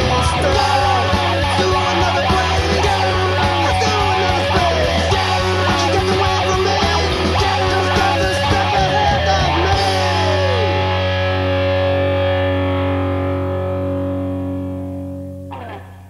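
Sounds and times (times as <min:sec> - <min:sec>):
distorted guitar chord ringing: 0:00.0 - 0:16.0
punk rock band playing: 0:00.0 - 0:16.0.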